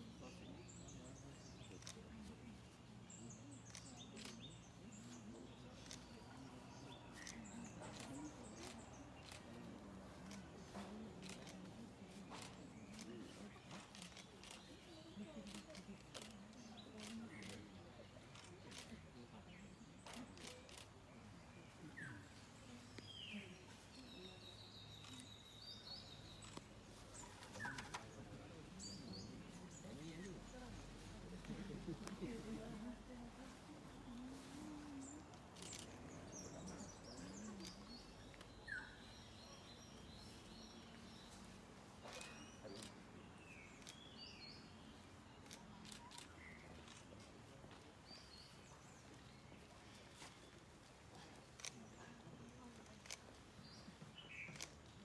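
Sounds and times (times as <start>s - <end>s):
murmur of distant voices: 0.0s - 55.0s
small birds chirping: 0.0s - 55.0s.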